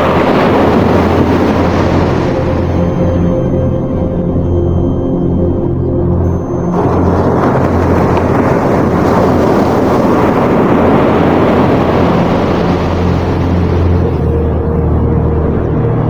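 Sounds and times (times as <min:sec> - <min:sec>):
surf rushing: 0:00.0 - 0:04.0, 0:06.2 - 0:16.0
low music drone: 0:00.0 - 0:16.0.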